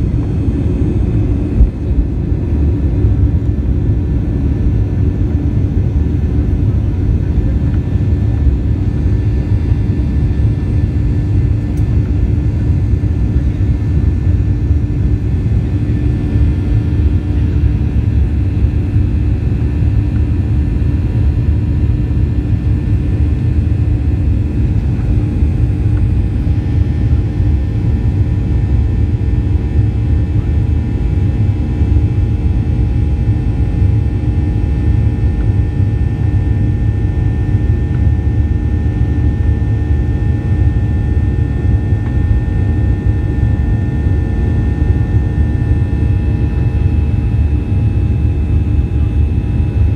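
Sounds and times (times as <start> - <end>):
faint steady hum: 0.0 - 49.9
jet engines rumbling in cabin: 0.0 - 49.9.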